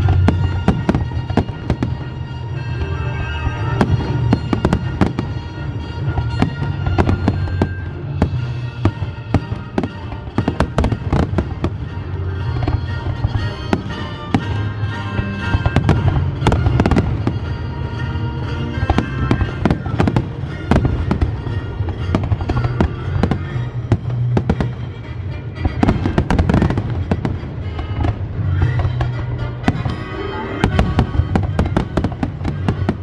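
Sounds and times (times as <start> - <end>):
fireworks bangs and crackles: 0.0 - 33.0
music with low notes: 0.0 - 33.0.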